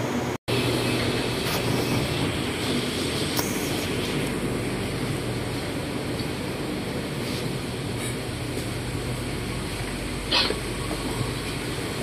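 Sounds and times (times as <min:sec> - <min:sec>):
monorail carriage running noise: 0:00.0 - 0:12.0.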